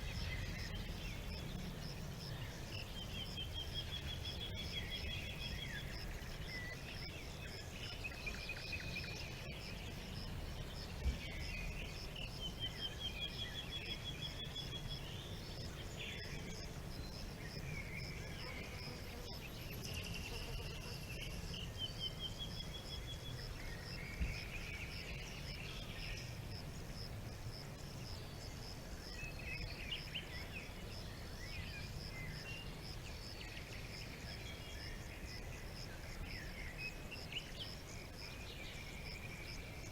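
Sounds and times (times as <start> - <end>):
insect chirping: 0.0 - 39.9
songbirds singing: 0.0 - 39.9.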